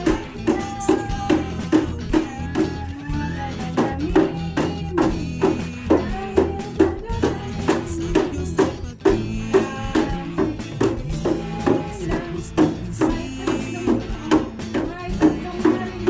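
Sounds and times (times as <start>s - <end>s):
christmas carol singing: 0.0s - 16.0s
plastic jug beaten as drum: 0.0s - 16.0s.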